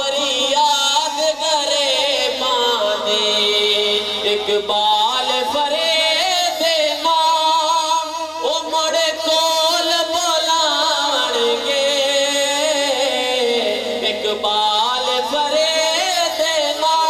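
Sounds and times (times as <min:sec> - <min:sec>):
man singing devotional poem: 0:00.0 - 0:17.0.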